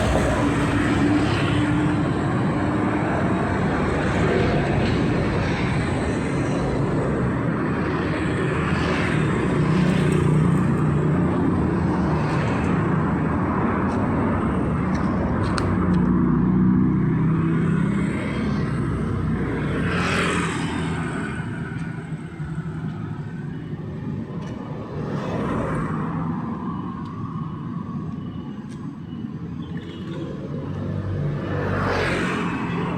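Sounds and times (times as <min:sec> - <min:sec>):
vehicles passing on street: 0:00.0 - 0:32.9.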